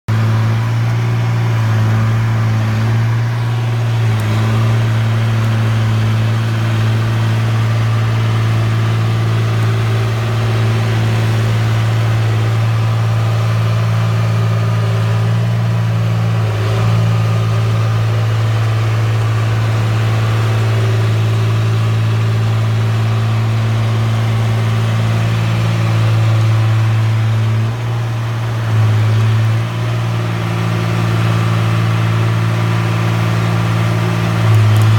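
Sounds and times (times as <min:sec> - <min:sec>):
bulldozer diesel engine idling: 0:00.1 - 0:34.9.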